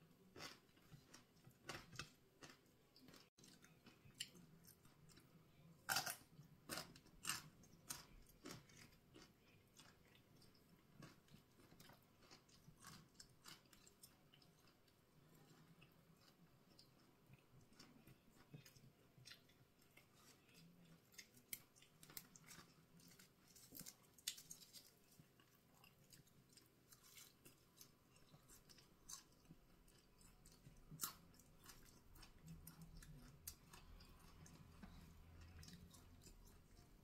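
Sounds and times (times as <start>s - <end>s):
chewing food: 0.0s - 37.0s.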